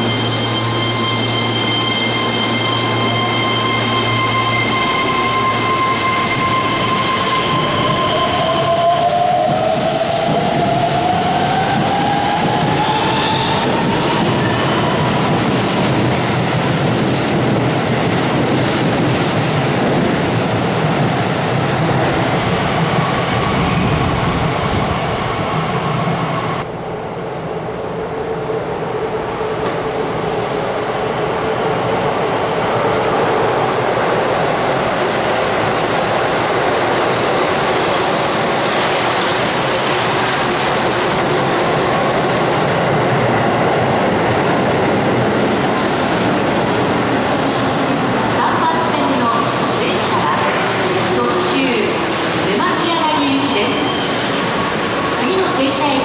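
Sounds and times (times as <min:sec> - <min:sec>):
train arriving rumble: 0:00.0 - 0:56.0
train passing with wheel noise: 0:00.0 - 0:56.0.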